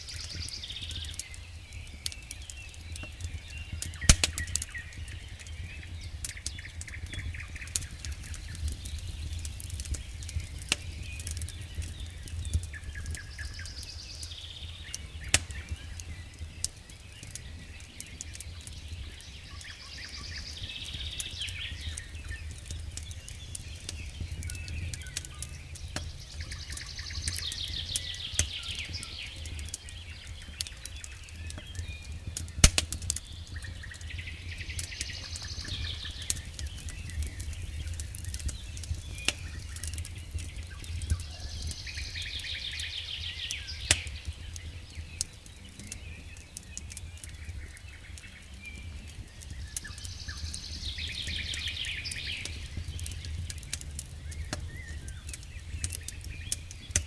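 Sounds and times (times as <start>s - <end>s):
campfire crackling and popping: 0.0s - 57.0s
small birds singing: 0.0s - 57.0s.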